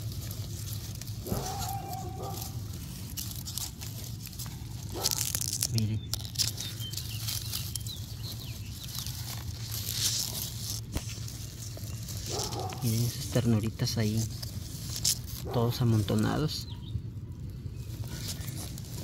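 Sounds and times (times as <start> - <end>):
dry grass rustling and crackling: 0.0 - 19.0.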